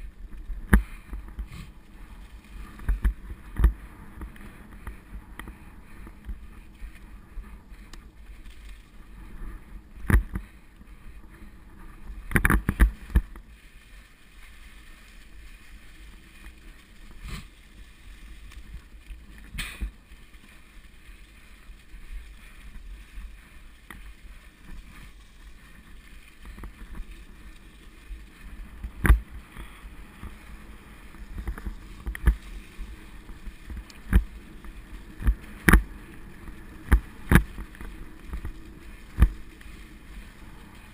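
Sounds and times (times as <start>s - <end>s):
bike knocking and rattling: 0.0s - 40.9s
bike rolling on dirt: 0.0s - 40.9s.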